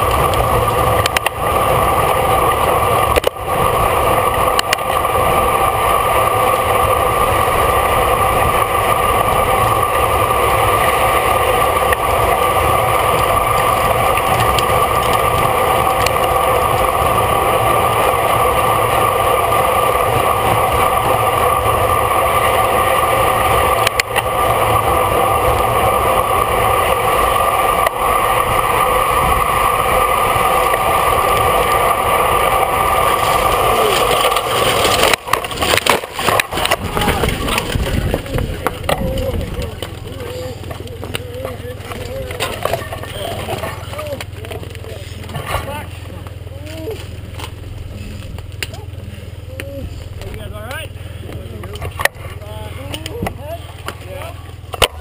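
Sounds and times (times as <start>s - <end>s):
tyre and drivetrain hum: 0.0s - 55.0s
wind and road noise: 0.0s - 55.0s.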